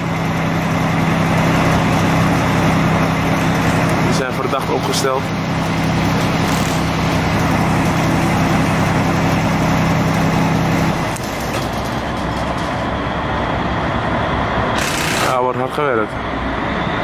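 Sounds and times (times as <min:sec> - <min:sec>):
large engine humming: 0:00.0 - 0:17.0
outdoor noise rush: 0:00.0 - 0:17.0.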